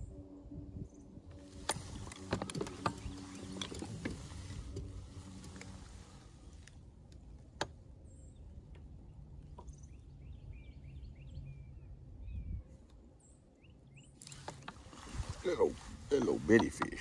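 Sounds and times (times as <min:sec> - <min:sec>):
low steady rumble: 0:00.0 - 0:17.0
small birds chirping: 0:00.9 - 0:06.7, 0:08.0 - 0:17.0.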